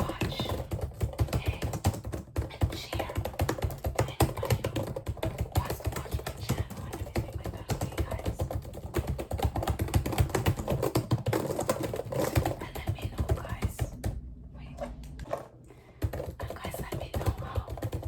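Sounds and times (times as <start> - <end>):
rapid clicking and tapping: 0.0 - 14.2, 15.2 - 18.0.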